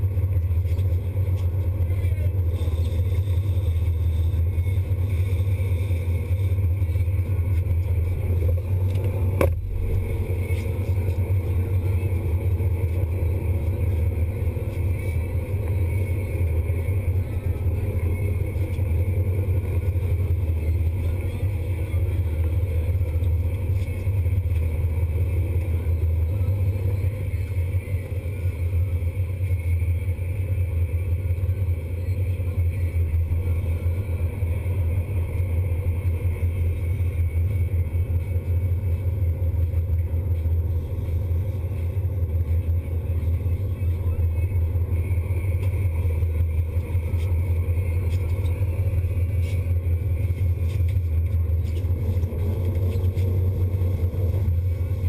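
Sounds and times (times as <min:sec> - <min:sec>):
boat engines droning: 0:00.0 - 0:55.0.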